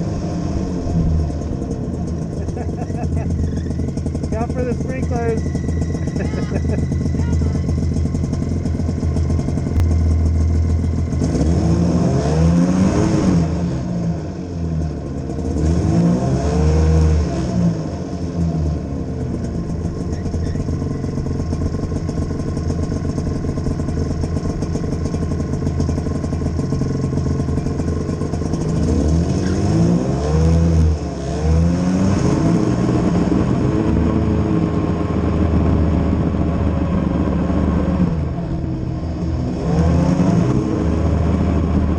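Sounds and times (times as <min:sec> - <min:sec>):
vehicle engine revving: 0:00.0 - 0:41.9.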